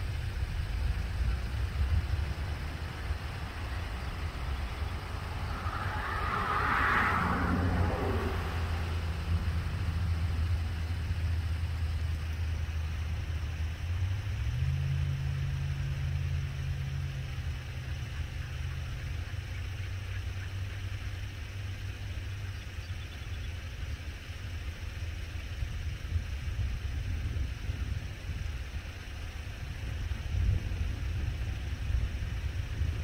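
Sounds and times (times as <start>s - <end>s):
engine idling with low hum: 0.0s - 33.0s.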